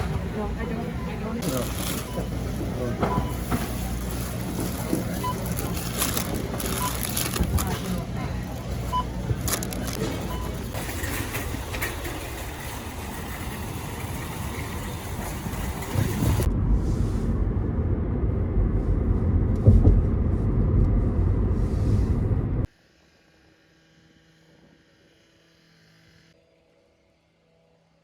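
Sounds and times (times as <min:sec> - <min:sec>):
vehicle rumble: 0:00.0 - 0:22.7.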